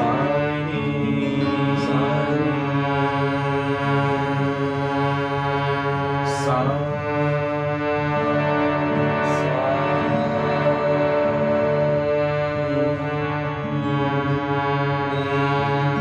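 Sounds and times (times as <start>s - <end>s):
harmonium droning chords: 0.0s - 16.0s.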